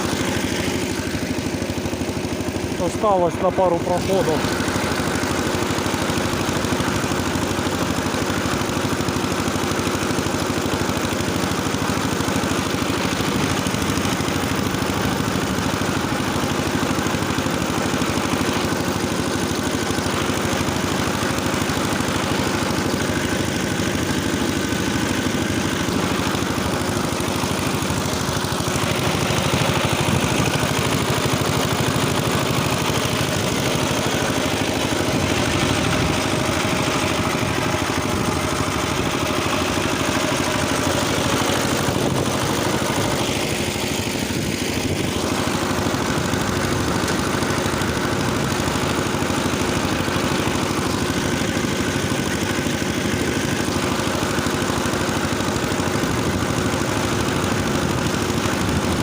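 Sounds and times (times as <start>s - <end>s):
engine running under load: 0.0s - 59.0s.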